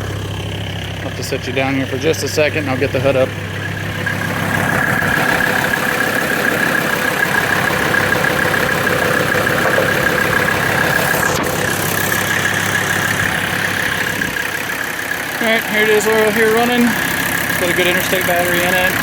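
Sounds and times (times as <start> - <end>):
diesel engine idling: 0.0 - 19.0
high-pitched turbo whine: 0.0 - 19.0.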